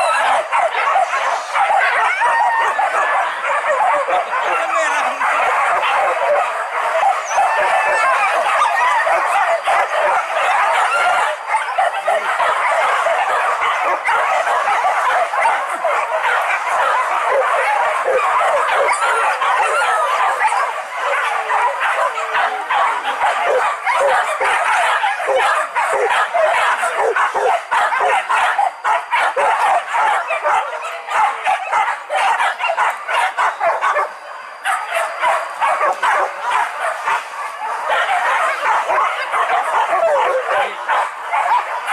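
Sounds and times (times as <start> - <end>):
dogs barking and yelping: 0.0 - 41.9.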